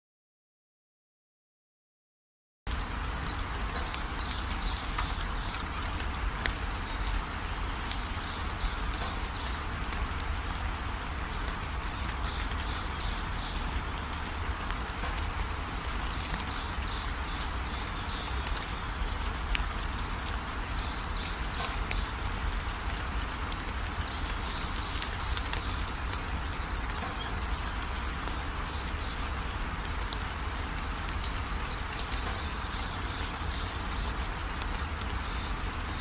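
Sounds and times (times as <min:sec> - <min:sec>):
small birds chirping: 0:02.7 - 0:36.0
steady rain: 0:02.7 - 0:36.0.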